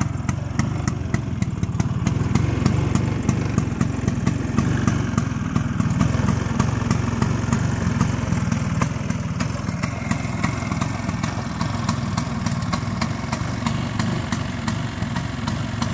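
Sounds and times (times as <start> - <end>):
scooter engine idling: 0.0 - 15.9.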